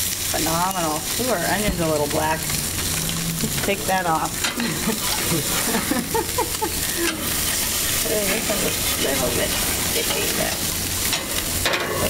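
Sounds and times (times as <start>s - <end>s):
fish sizzling on a grill: 0.0s - 12.0s.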